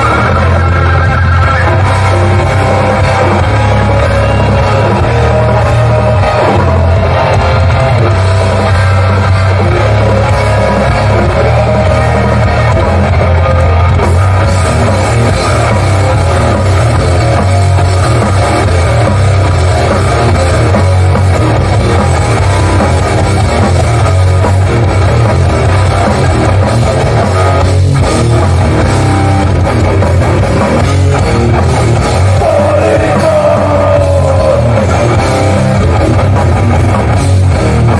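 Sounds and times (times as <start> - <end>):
distorted electric guitars: 0.0 - 37.9
drum kit: 0.0 - 37.9
heavy bass: 0.0 - 37.9.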